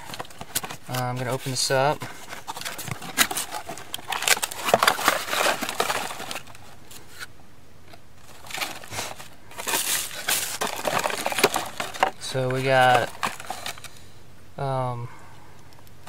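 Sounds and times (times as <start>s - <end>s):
plastic bag crinkling: 0.0s - 7.2s, 8.2s - 14.0s
cardboard box being opened: 0.0s - 7.3s, 8.2s - 13.9s.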